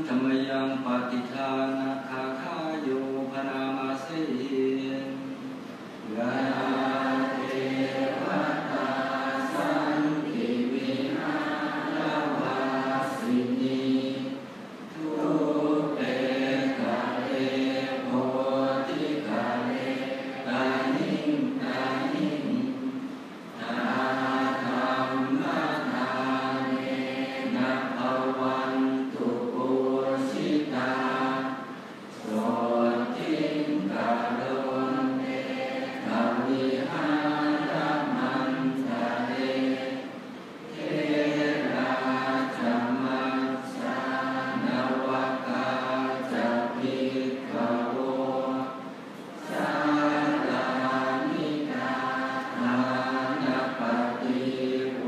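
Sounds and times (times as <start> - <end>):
monks chanting in unison: 0.0 - 5.4, 6.0 - 55.0.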